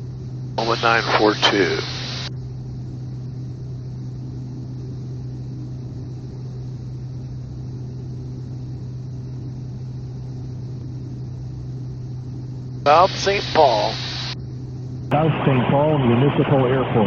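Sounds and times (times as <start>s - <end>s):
turboprop engine drone: 0.0s - 17.0s.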